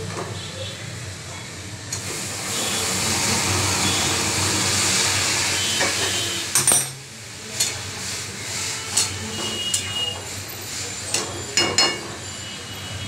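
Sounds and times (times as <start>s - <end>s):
hot water hissing in pan: 0.6s - 13.0s.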